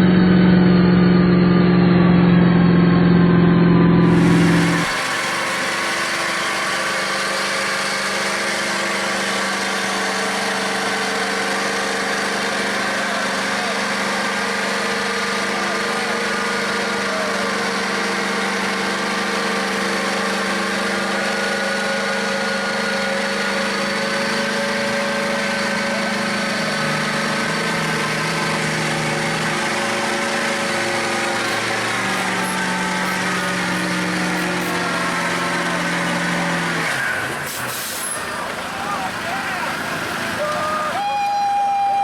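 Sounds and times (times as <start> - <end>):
truck engine running: 0.0 - 41.4.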